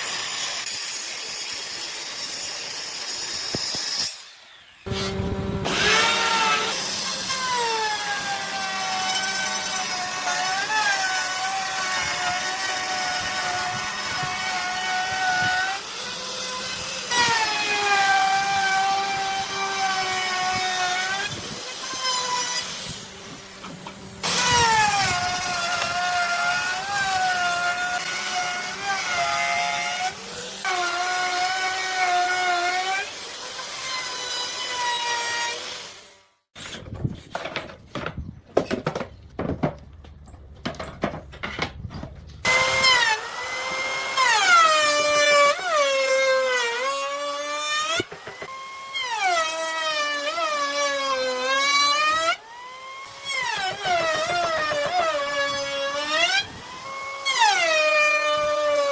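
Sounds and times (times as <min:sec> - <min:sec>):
power tool cutting wood: 0:00.0 - 0:36.3, 0:42.4 - 0:58.9.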